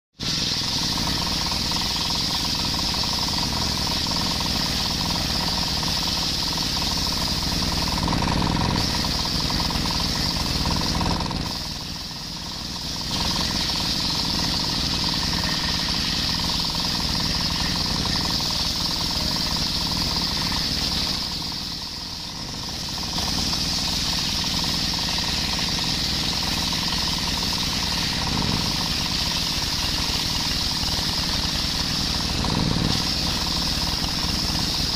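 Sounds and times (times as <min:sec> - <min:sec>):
circular saw cutting wood: 0:00.2 - 0:34.9.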